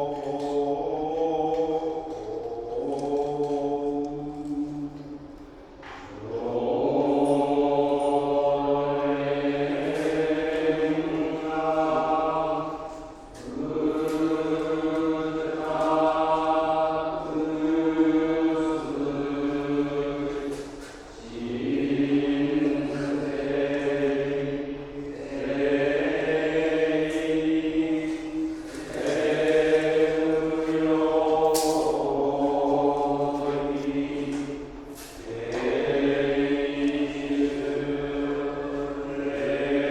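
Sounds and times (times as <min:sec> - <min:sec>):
monks chanting: 0:00.0 - 0:39.9.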